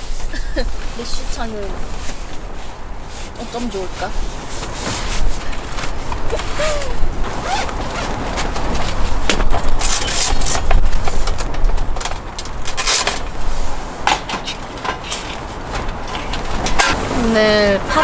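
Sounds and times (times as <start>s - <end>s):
gusty wind on microphone: 0.0s - 18.0s
tent fabric flapping: 0.0s - 18.0s.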